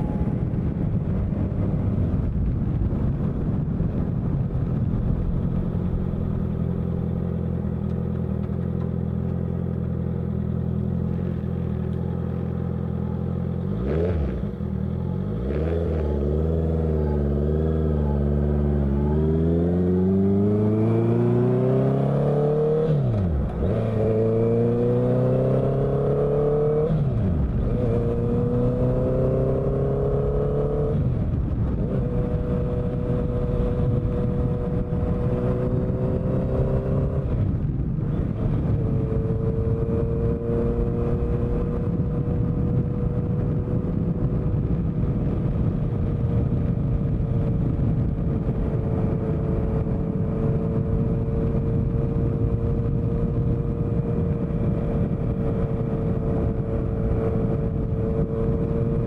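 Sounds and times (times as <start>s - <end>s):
motorcycle engine revving: 5.2s - 59.0s.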